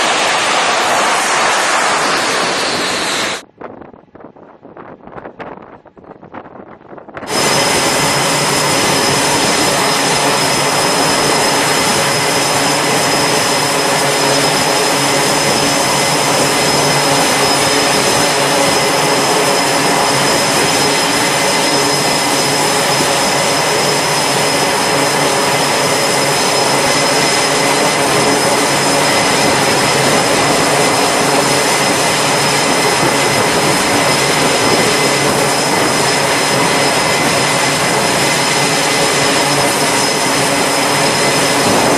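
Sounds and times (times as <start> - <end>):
thin high whine: 0.0 - 3.4, 7.2 - 41.9
jet engines rushing: 0.0 - 3.5, 7.2 - 41.9.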